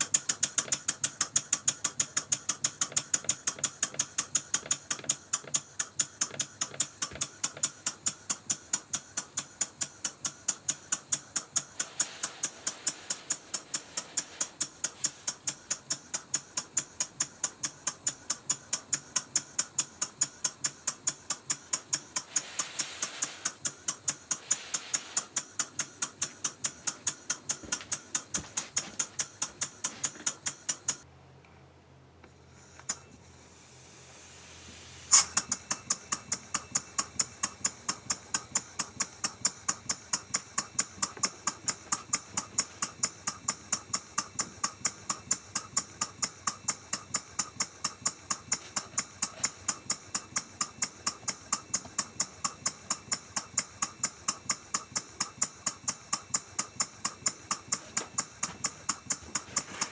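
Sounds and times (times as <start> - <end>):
steam engine exhaust puffs: 0.0 - 31.0, 32.4 - 59.9
air hissing: 5.3 - 31.0, 32.5 - 59.9.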